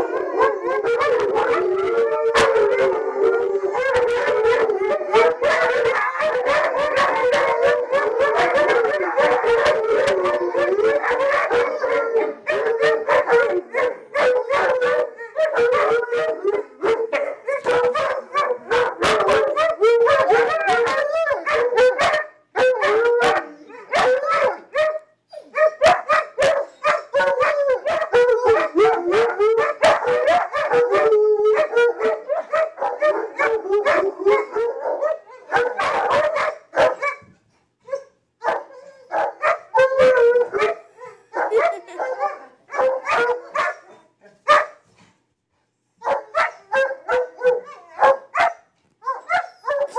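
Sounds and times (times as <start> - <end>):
dogs howling: 0.0 - 37.1, 37.9 - 43.9, 46.0 - 49.9
dogs barking and yipping: 0.0 - 44.8, 46.0 - 49.9.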